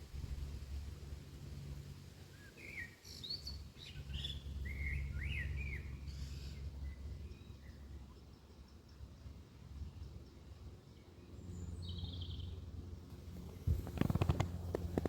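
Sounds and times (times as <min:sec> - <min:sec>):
songbird chirping: 0:02.3 - 0:15.0.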